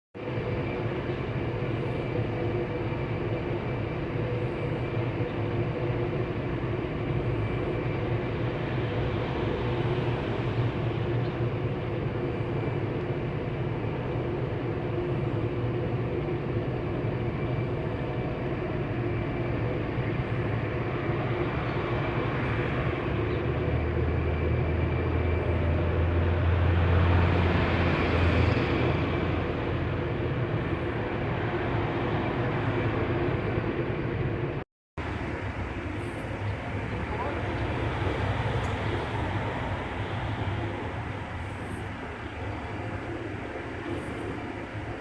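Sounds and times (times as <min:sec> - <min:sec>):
faint high whine: 0:00.2 - 0:45.0.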